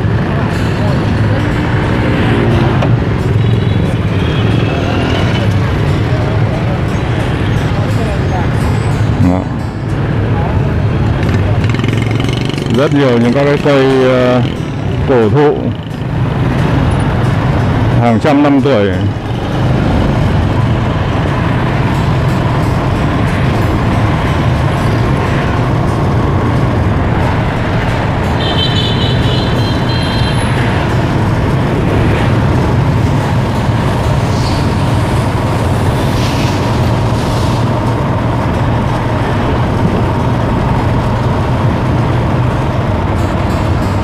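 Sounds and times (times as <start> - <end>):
traffic rumble: 0.0 - 44.0.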